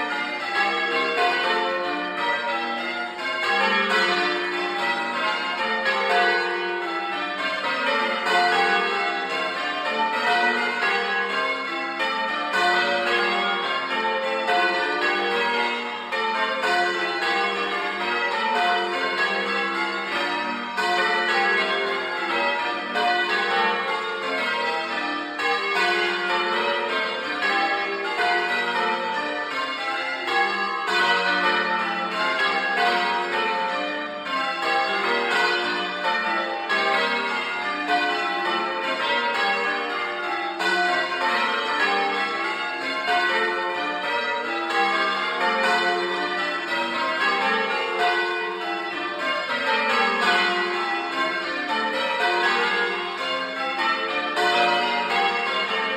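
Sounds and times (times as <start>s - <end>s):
church bells ringing: 0.0s - 55.9s.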